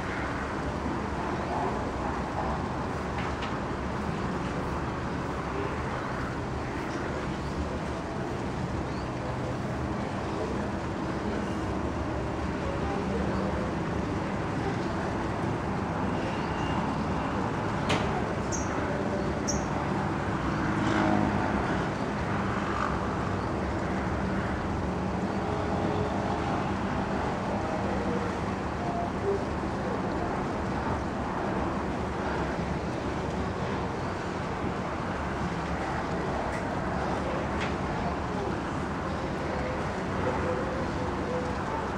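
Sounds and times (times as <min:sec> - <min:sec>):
distant road traffic rumble: 0:00.0 - 0:41.9.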